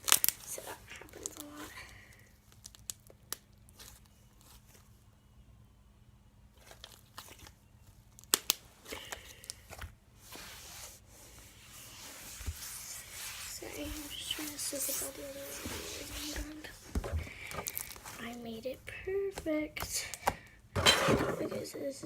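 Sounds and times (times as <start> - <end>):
soft crackling rustle: 0.0 - 5.2, 6.5 - 20.2.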